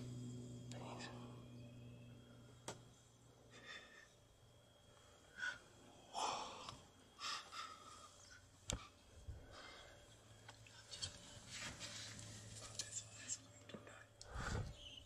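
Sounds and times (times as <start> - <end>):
people whispering and breathing: 0.6 - 1.6, 3.2 - 11.9, 12.5 - 15.0.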